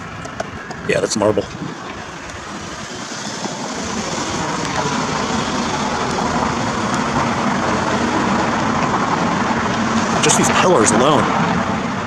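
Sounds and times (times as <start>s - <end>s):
vehicle passing on street: 0.0s - 12.0s.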